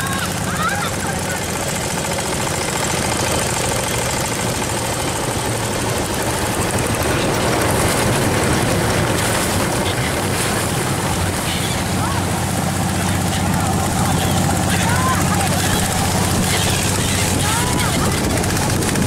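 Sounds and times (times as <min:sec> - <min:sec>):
boat motor running: 0:00.0 - 0:19.0
water rushing along hull: 0:00.0 - 0:19.0.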